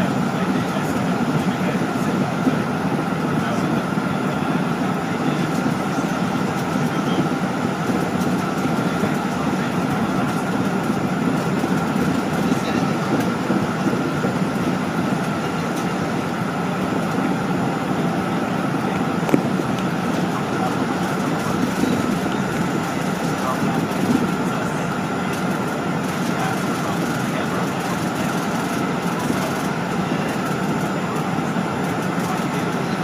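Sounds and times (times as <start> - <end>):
airliner cabin hum: 0.0 - 33.0.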